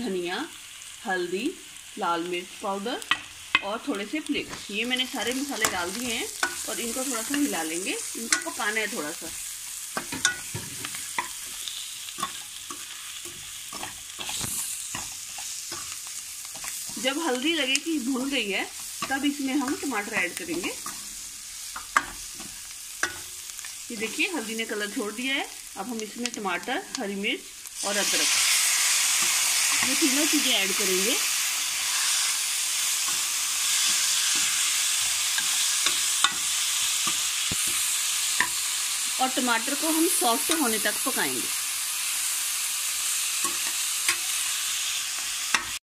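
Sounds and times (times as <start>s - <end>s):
onions sizzling in oil: 0.0s - 45.8s.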